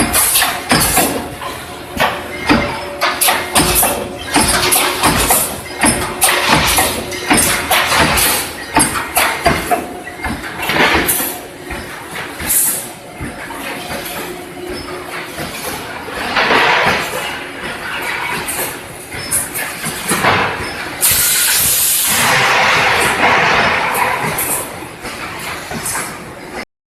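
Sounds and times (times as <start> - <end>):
metallic knocks and clanks: 0.0 - 12.6, 13.2 - 26.2
machine hum: 0.0 - 26.3.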